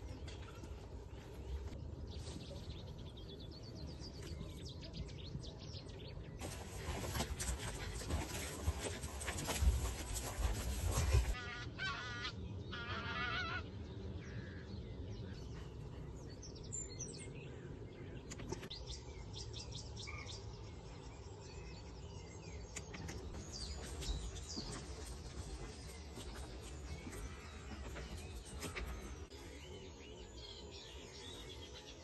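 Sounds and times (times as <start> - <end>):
small birds chirping: 0.0 - 11.4, 13.6 - 32.0.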